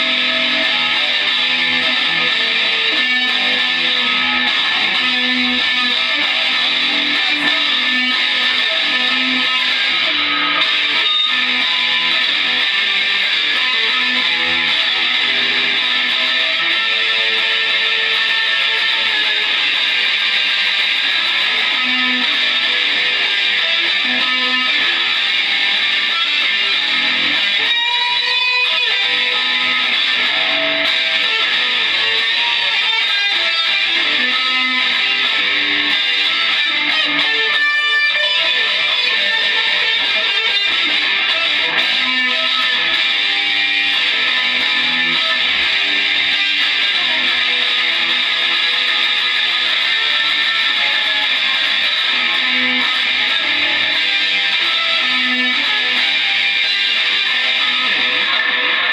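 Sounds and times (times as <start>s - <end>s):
harsh electric guitar noise: 0.0s - 58.9s.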